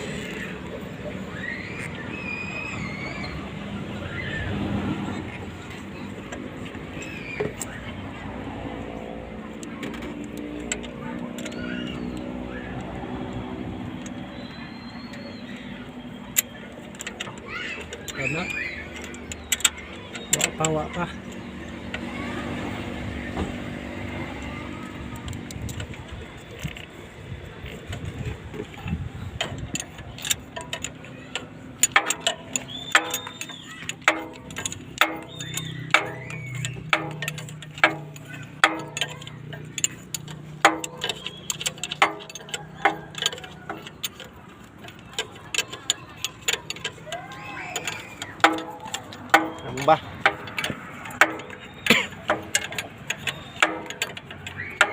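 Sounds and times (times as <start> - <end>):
sharp metallic clicks and clinks: 4.0 - 54.9.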